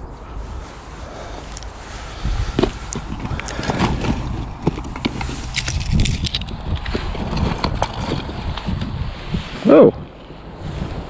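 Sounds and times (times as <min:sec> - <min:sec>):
rope and metal rustling and scraping: 0:00.0 - 0:11.0
wind buffeting microphone: 0:00.0 - 0:11.0.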